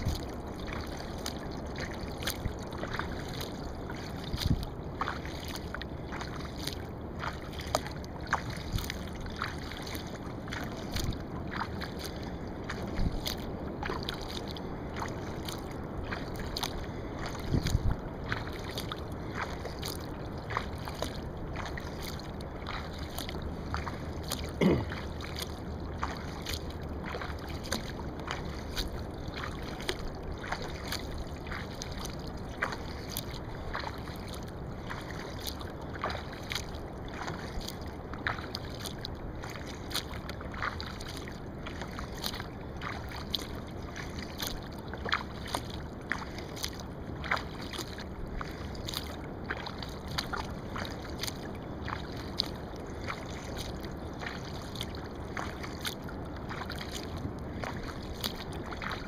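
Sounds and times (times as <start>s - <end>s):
paddle splashes and drips: 0.0s - 59.0s.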